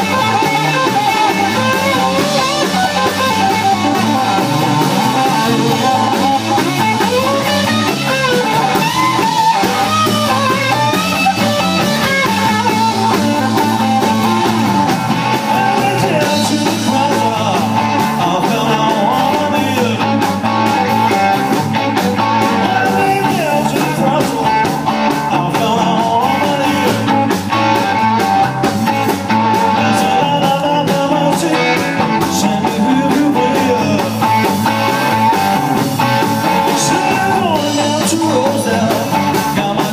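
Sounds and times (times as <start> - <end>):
drum kit: 0.0 - 39.9
electric bass: 0.0 - 39.9
electric guitar: 0.0 - 39.9
person singing lead vocal: 0.0 - 39.9.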